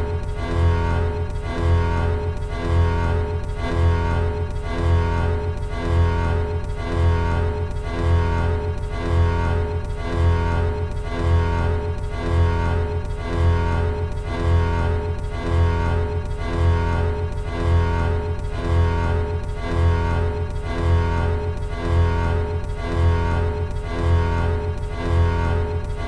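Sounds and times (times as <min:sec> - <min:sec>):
dissonant electronic alarm tones: 0:00.0 - 0:26.0
pulsing low drone: 0:00.0 - 0:26.0.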